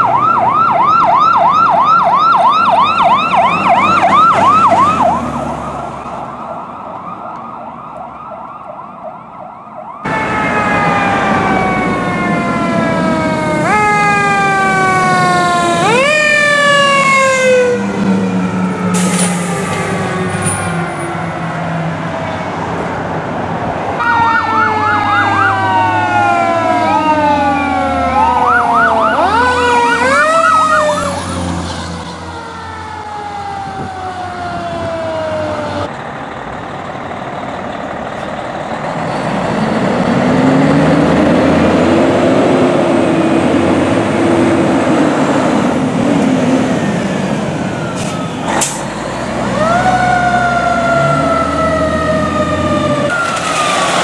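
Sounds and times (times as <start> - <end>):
truck engine: 0.0 - 8.6, 9.9 - 54.0
electronic sirens yelping: 0.0 - 21.2, 24.0 - 35.9, 42.7 - 54.0
deep siren wail: 0.0 - 35.9, 39.6 - 54.0
high siren wail: 0.0 - 35.9, 40.0 - 54.0.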